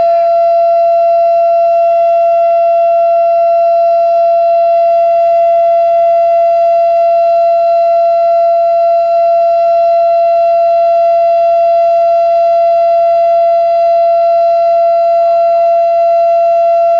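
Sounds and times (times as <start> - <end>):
warning siren steady tone: 0.0 - 16.9.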